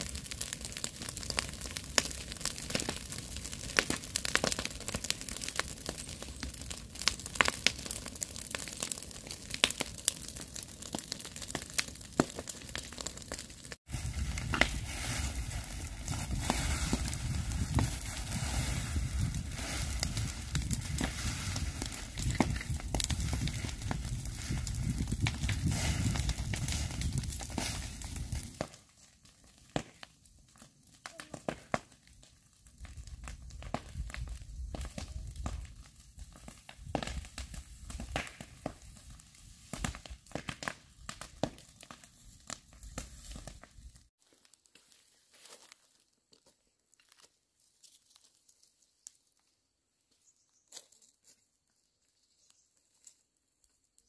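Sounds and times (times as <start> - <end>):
grass fire crackling and popping: 0.0 - 49.5, 50.7 - 54.0.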